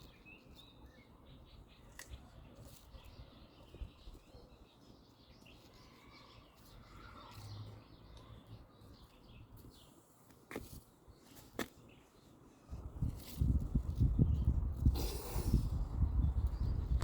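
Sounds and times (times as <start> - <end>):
birds chirping: 0.0 - 12.8, 14.0 - 17.0.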